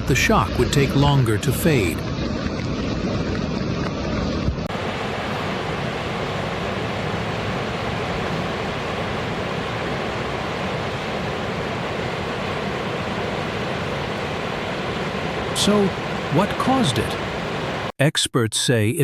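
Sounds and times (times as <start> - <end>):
strong wind blowing: 0.0 - 17.9.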